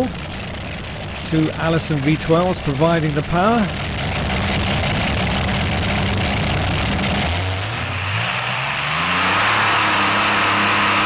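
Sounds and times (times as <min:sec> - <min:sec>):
aero engines revving: 0:00.0 - 0:11.0.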